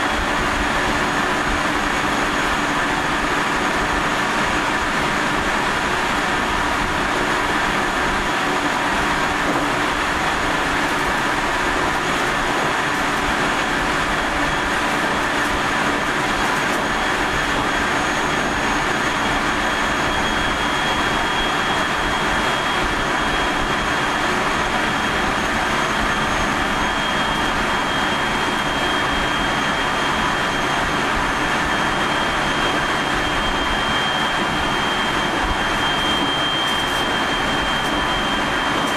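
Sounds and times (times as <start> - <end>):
higher motor whine: 0.0 - 38.9
traction motor whine: 0.0 - 38.9
train rail and running noise: 0.0 - 38.9.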